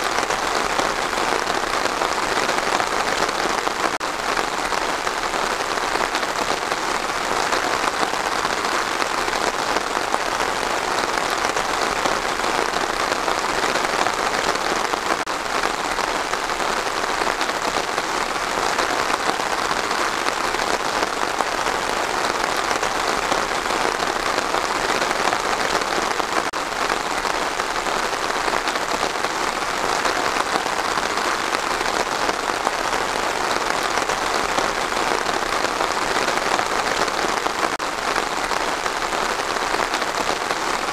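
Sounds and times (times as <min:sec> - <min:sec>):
rain falling on trees: 0:00.0 - 0:40.9.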